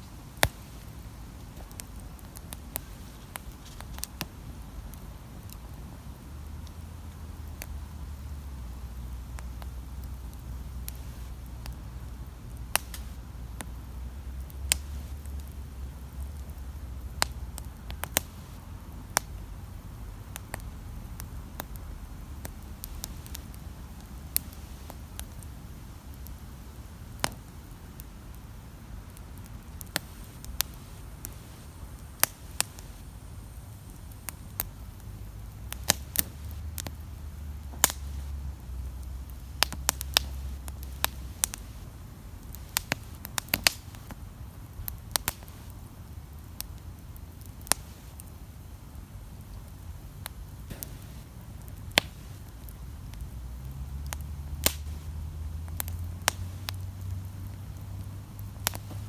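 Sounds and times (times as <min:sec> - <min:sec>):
low steady rumble: 0:00.0 - 0:47.4
campfire crackling: 0:00.0 - 0:59.0.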